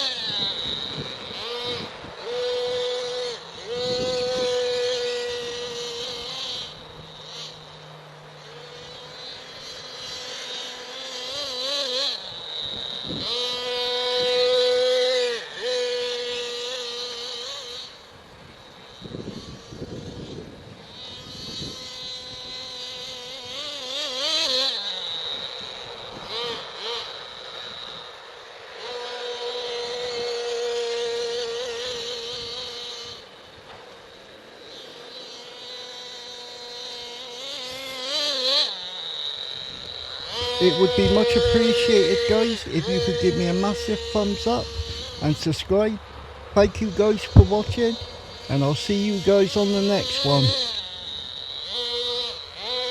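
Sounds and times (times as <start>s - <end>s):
nitro model engine at high revs: 0.0s - 52.9s.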